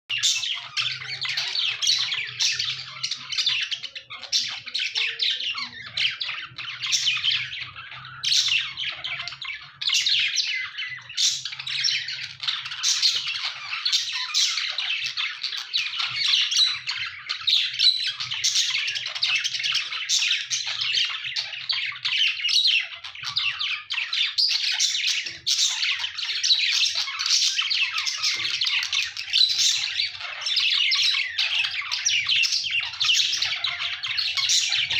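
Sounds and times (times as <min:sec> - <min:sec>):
budgies chattering and squawking: 0:00.1 - 0:34.9.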